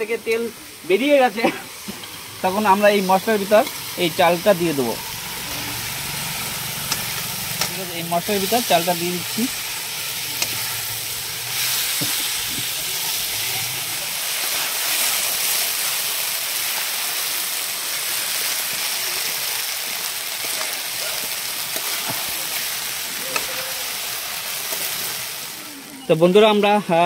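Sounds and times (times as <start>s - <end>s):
rice sizzling in hot oil: 0.0s - 27.0s.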